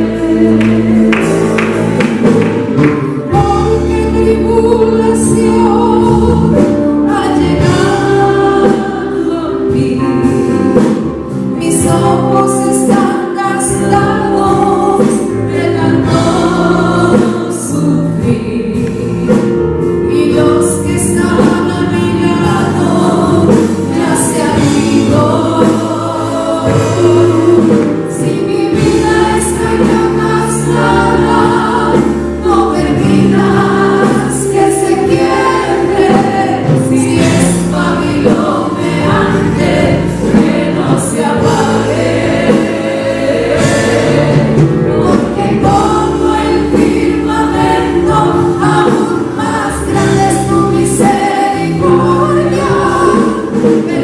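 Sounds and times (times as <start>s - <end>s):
band with guitar: 0.0s - 54.0s
women singing into microphones: 0.0s - 54.0s.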